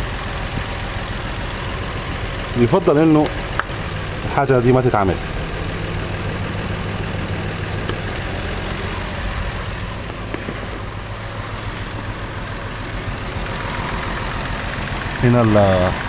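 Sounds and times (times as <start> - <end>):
car engine idling with misfire: 0.0 - 16.0.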